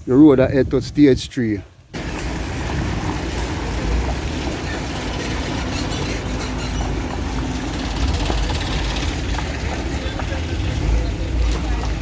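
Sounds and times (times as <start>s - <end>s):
engine and road rumble: 1.6s - 12.0s.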